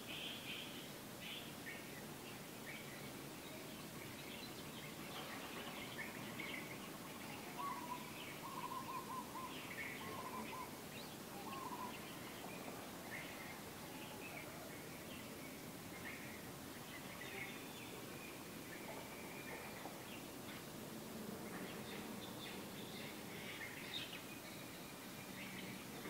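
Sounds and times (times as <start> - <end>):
birds chirping: 0.0 - 26.0
faint outdoor background hiss: 0.0 - 26.0.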